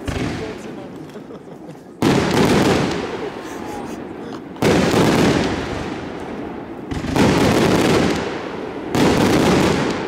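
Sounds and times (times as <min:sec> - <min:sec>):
firework shells bursting with crackle: 0:00.0 - 0:10.0.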